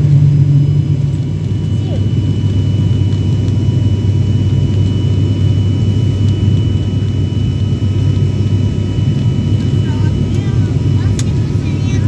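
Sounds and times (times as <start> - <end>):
engine and airflow rumble: 0.0 - 12.0.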